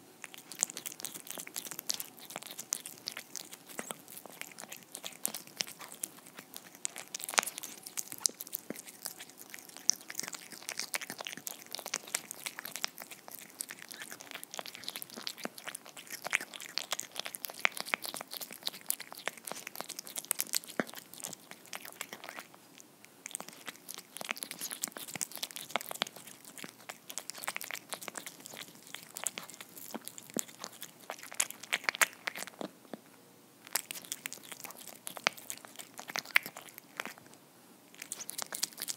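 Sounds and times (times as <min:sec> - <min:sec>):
cat chewing wetly: 0:00.0 - 0:33.0, 0:33.6 - 0:38.9
cat licking: 0:00.2 - 0:32.7, 0:33.7 - 0:37.3, 0:37.9 - 0:38.9
mouth and teeth clicks: 0:00.2 - 0:33.0, 0:33.6 - 0:38.9.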